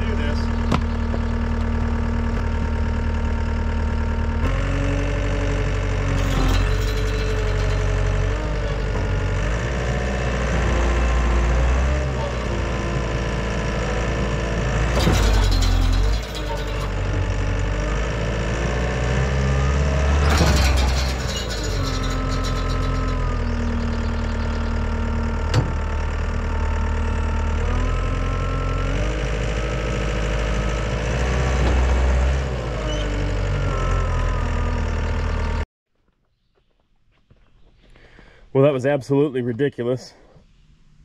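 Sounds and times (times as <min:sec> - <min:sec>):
diesel engine working hard: 0:00.0 - 0:35.6.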